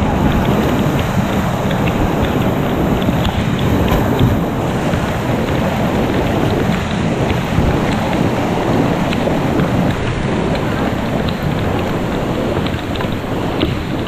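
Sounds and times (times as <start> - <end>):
rapids rushing over rocks: 0.0 - 14.0.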